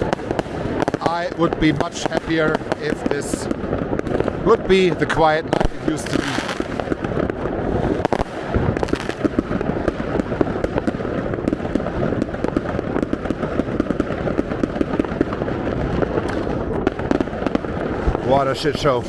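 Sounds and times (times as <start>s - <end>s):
fireworks and firecrackers crackling: 0.0s - 19.0s.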